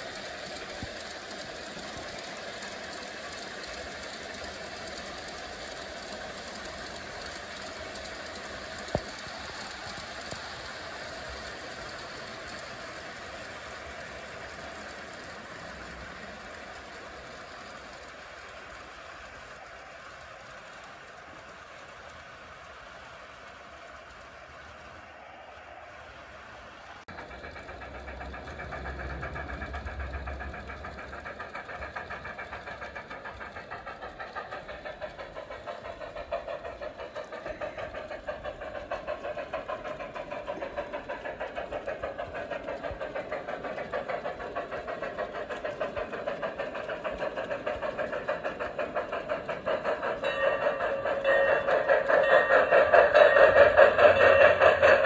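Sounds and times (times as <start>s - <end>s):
model train humming and pulsing: 0.0s - 55.0s.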